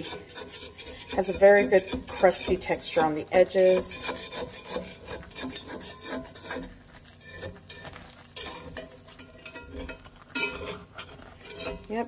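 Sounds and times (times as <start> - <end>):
metal spatula scraping skillet: 0.0 - 12.0.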